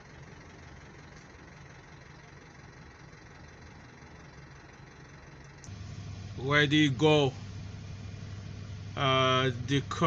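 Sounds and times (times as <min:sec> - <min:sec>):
city street traffic rumble: 0:00.0 - 0:10.0
vehicle engines idling: 0:00.0 - 0:10.0.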